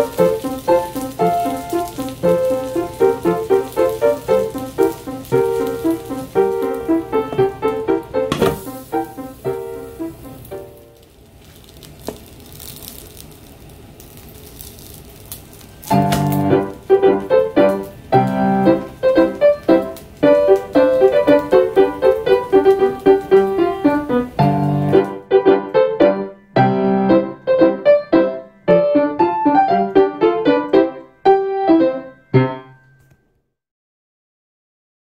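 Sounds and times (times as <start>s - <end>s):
light piano melody: 0.0s - 13.3s, 14.1s - 33.4s.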